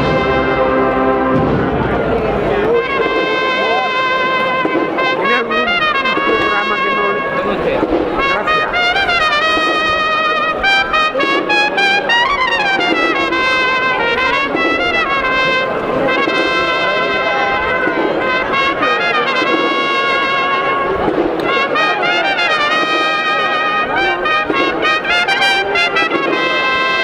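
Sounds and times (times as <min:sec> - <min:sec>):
brass band playing a march: 0:00.0 - 0:27.0.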